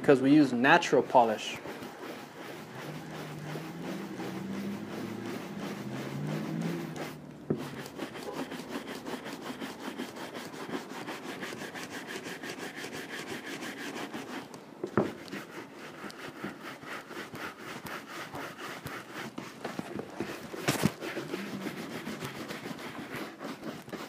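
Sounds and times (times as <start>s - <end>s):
brush buffing leather boot: 0.2s - 24.0s.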